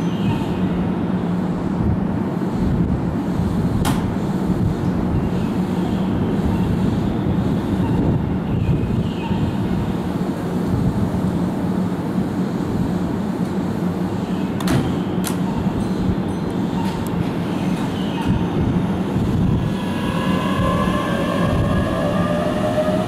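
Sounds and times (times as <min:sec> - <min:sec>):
electric train rumbling and humming: 0:00.0 - 0:23.0.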